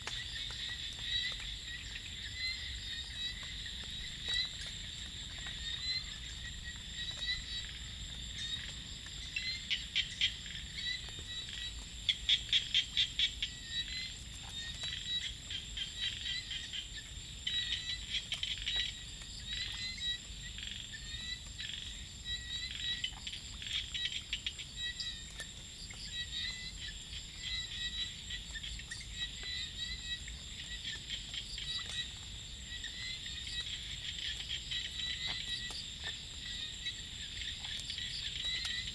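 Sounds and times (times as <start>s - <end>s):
frogs chirping rapidly: 0.0s - 38.9s
insect drone: 0.0s - 38.9s.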